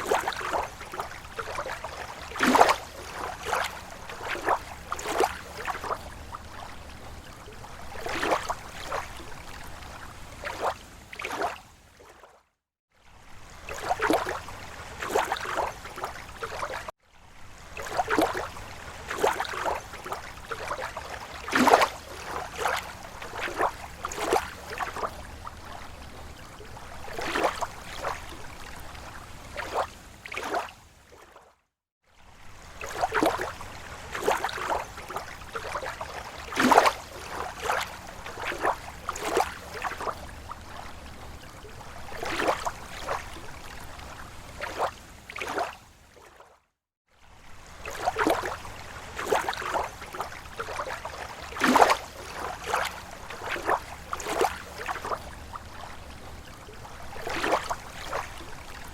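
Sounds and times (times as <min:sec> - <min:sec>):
waves lapping on lake shore: 0:00.0 - 0:58.9.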